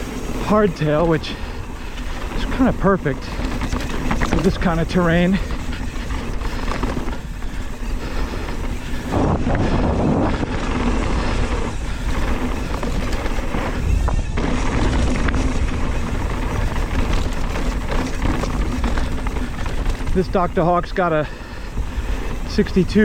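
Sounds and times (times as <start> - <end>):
bike tyres rolling over dirt: 0.0 - 23.0
wind rushing over microphone: 0.0 - 23.0.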